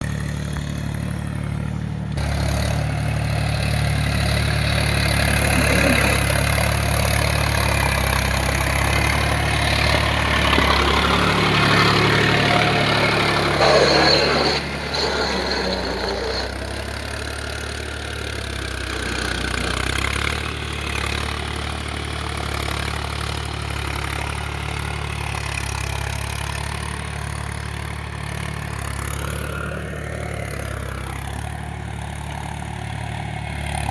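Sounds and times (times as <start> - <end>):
small tractor engine running: 0.0 - 33.9.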